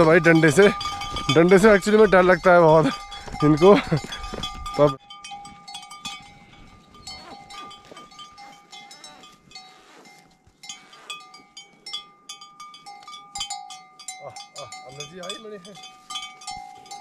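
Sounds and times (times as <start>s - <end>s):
animal bells clanking: 0.0s - 17.0s.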